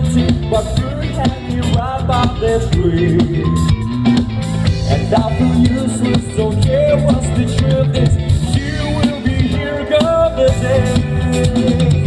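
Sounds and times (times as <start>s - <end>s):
person singing: 0.0s - 3.7s, 4.7s - 12.0s
bass guitar: 0.0s - 12.0s
drum kit beat: 0.0s - 12.0s
electric guitars: 0.0s - 12.0s.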